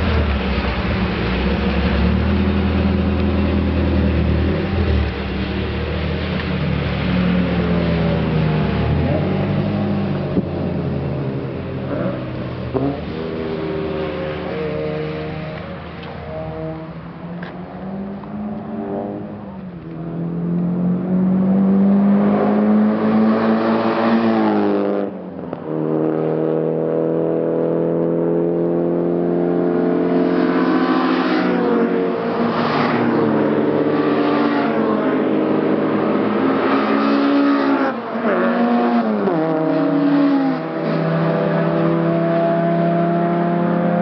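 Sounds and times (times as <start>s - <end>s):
cars accelerating hard: 0.0s - 44.0s.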